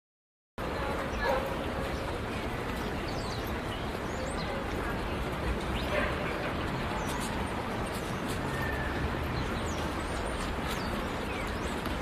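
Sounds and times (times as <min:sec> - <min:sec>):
small birds chirping: 0:00.6 - 0:12.0.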